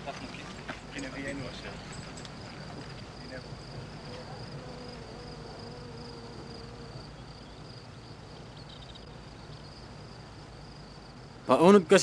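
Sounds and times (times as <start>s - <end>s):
low background hum: 0.0s - 12.0s
insect chirring: 0.8s - 11.6s.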